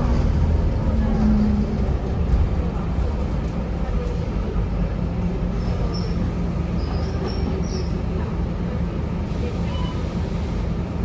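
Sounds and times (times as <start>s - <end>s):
bus engine drone: 0.0s - 11.0s
road noise: 0.0s - 11.0s.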